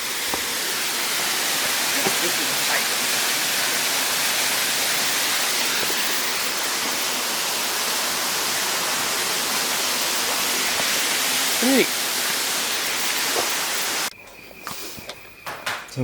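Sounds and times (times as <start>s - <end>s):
small waterfall rushing: 0.0s - 14.1s.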